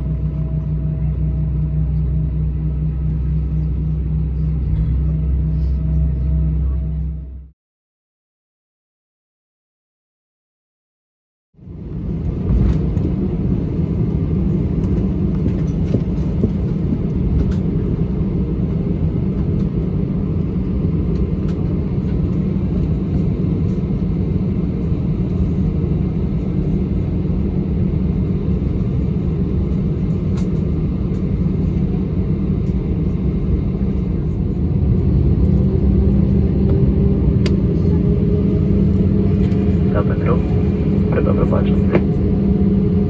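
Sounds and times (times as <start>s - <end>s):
airplane cabin engine rumble: 0.0s - 7.6s, 11.6s - 43.0s.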